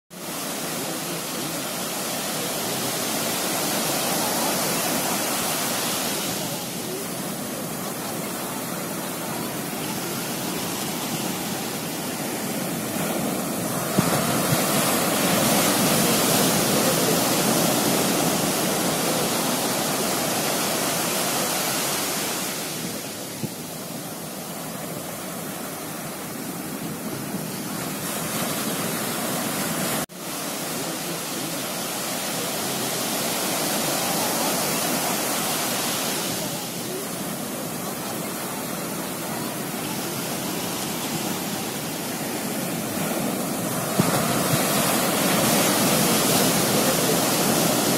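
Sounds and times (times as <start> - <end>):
surf breaking on a beach: 0.1 - 47.9.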